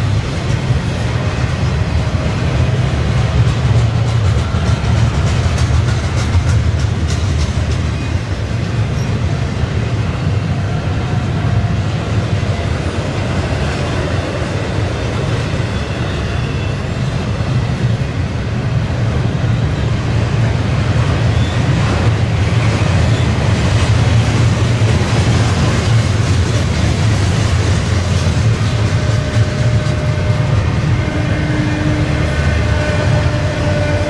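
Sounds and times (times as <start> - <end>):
freight train rolling on rails: 0.0 - 34.0.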